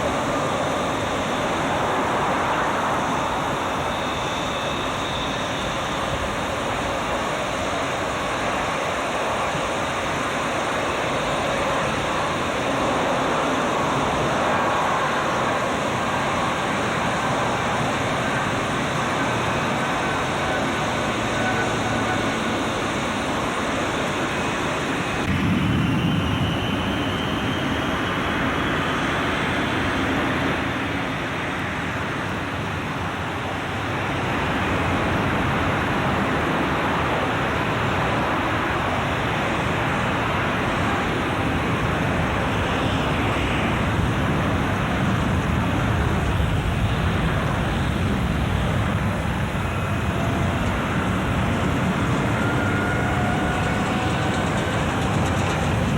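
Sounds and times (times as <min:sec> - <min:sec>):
jet engines running: 0:00.0 - 0:55.9.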